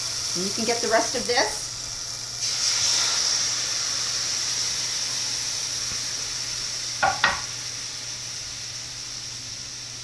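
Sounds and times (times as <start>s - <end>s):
batter sizzling in frying pan: 0.0s - 10.0s.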